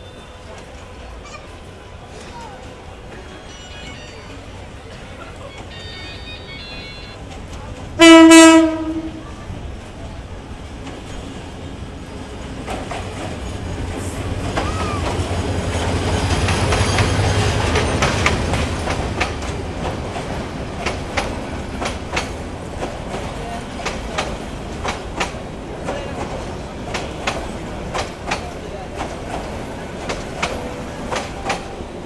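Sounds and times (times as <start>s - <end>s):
train rumbling on rails: 0.0s - 32.0s
wheels clacking over rail joints: 2.0s - 32.0s.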